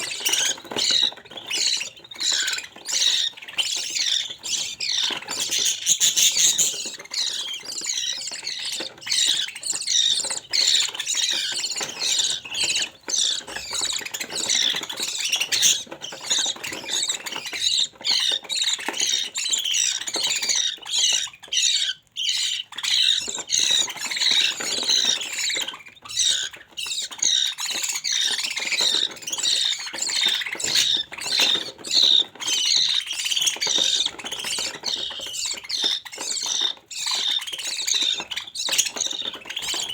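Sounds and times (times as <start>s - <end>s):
bird chicks squawking: 0.0s - 39.9s.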